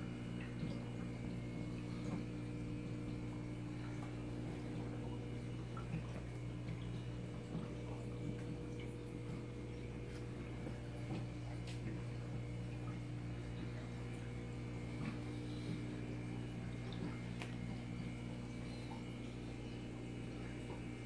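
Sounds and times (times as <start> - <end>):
aquarium equipment humming: 0.0 - 21.0
water ticks and drips: 0.0 - 21.0.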